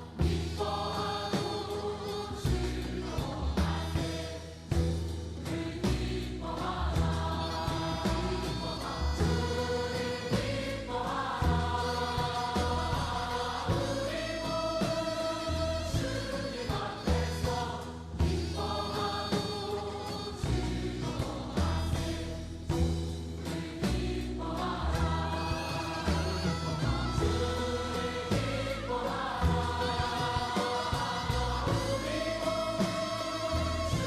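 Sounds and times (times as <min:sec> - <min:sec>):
group singing: 0:00.0 - 0:34.0
percussion hits: 0:00.0 - 0:34.0
held bass line: 0:02.0 - 0:34.0.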